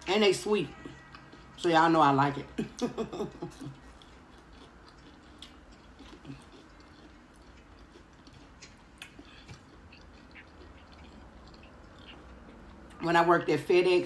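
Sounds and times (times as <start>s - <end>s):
faint chewing: 0.3s - 14.0s.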